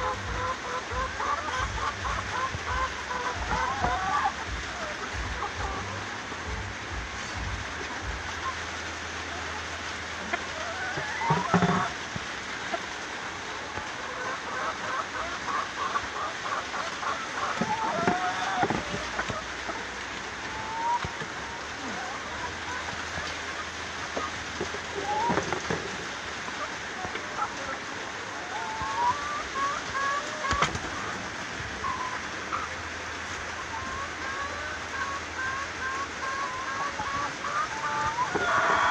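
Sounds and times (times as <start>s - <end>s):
hen clucking: 0.0s - 38.9s
steady background hiss: 0.0s - 38.9s.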